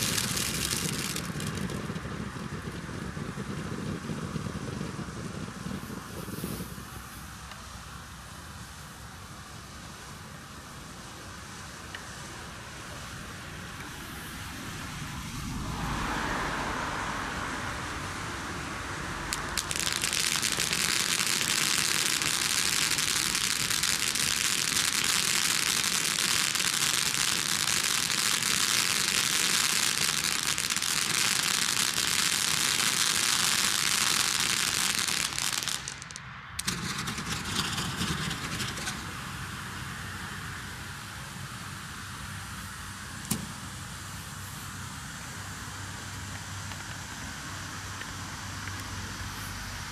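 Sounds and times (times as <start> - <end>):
firework fountains hissing: 0.0 - 49.9.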